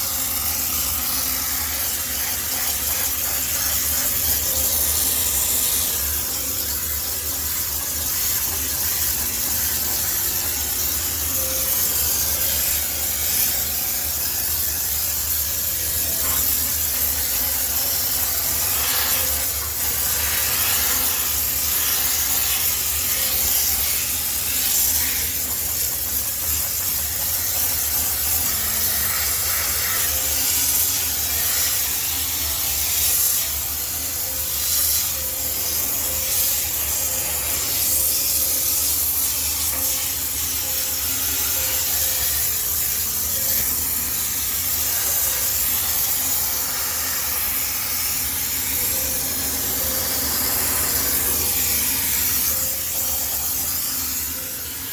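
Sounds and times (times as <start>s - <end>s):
steam cleaner hissing: 0.0s - 54.9s.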